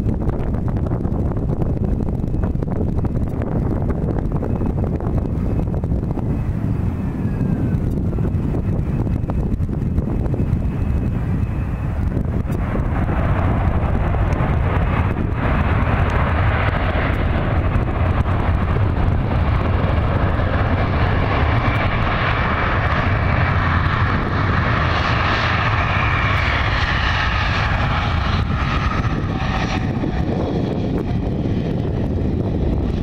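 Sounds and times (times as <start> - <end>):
jet engine whine: 0.0 - 33.0
jet engines reverse thrust rumble: 0.0 - 33.0.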